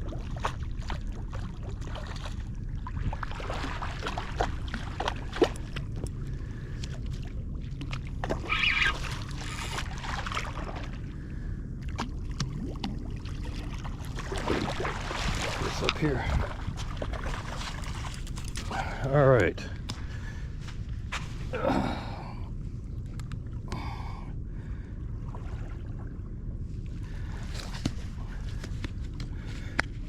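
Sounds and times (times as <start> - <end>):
steady low rumble: 0.0 - 30.0
water splashing and sloshing: 0.0 - 30.0.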